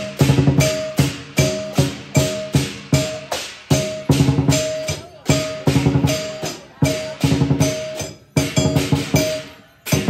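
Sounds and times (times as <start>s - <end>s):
crashing cymbals: 0.0s - 10.0s
drum beating: 0.0s - 10.0s.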